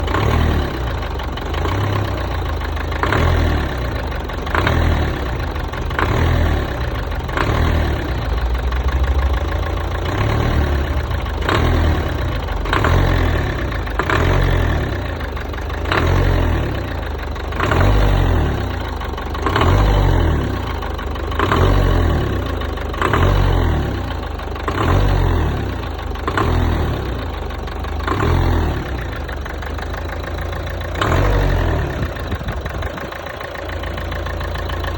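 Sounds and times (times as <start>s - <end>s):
diesel engine revving: 0.0s - 34.9s
engine idling: 0.0s - 34.9s.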